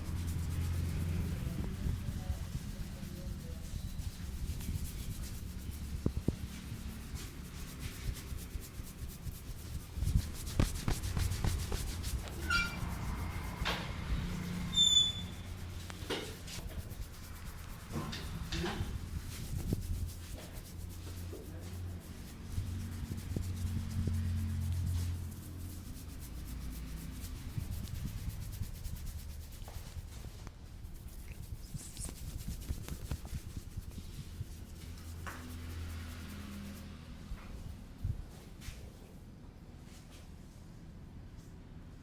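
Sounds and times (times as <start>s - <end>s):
hands rubbing hair and scalp: 0.0s - 39.1s.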